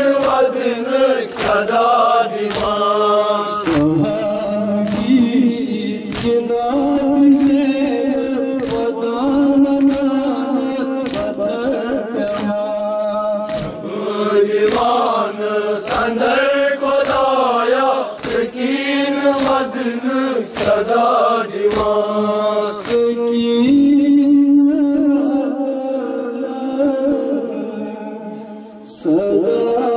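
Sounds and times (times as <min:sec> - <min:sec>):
men chanting in unison: 0:00.0 - 0:29.9.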